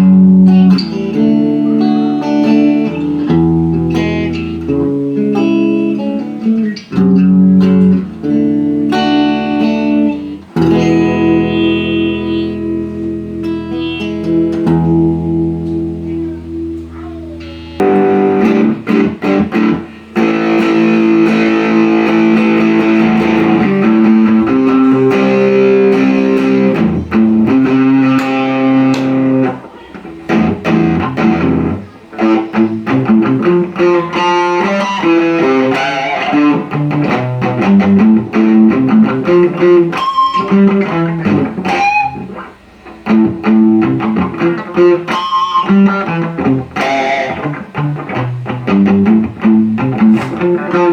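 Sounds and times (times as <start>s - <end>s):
electric guitar playing: 0.0s - 50.9s.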